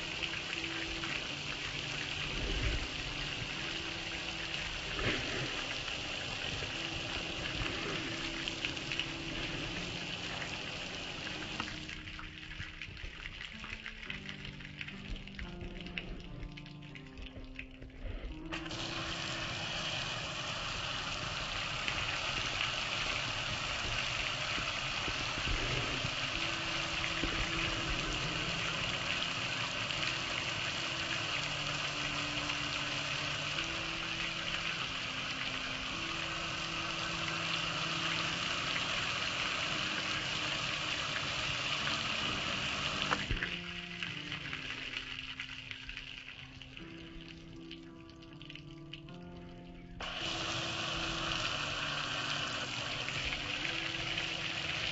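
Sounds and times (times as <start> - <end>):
water spraying onto metal grill: 0.0 - 47.6, 50.0 - 54.9.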